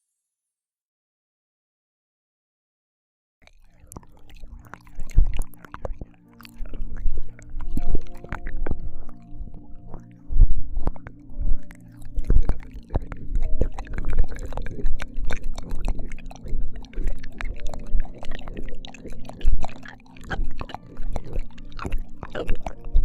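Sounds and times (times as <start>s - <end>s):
wet mouth clicks and smacks: 3.4s - 23.0s
steady low drone: 3.9s - 23.0s.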